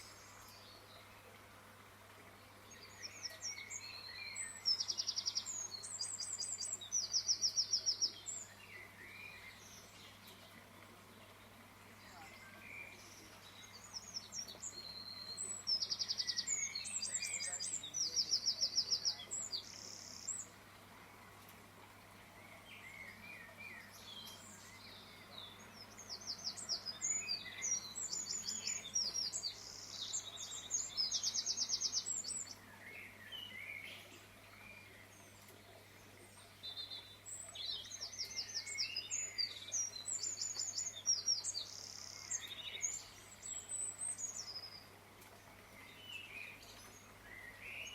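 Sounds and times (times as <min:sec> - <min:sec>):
songbird trilling and chirping: 0:02.6 - 0:21.4, 0:22.2 - 0:47.9.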